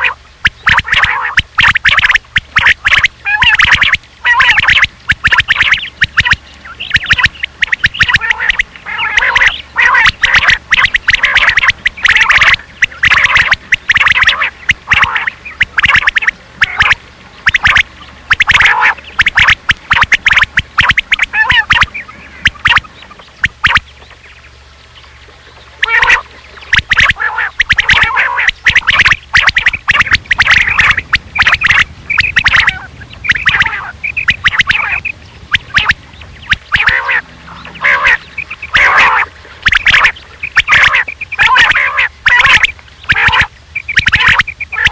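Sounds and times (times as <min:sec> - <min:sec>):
quail calling: 0:00.0 - 0:44.9.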